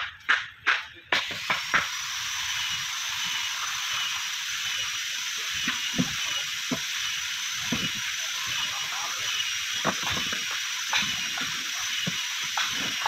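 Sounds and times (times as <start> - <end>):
loud hiss with high whistle: 1.1 - 13.0.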